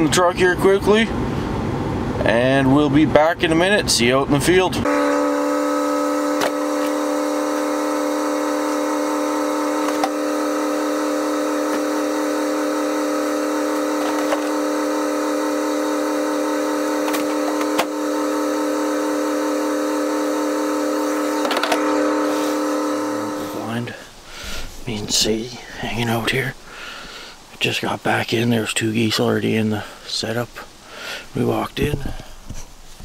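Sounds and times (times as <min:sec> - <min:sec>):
steady machine hum: 0:00.3 - 0:31.7.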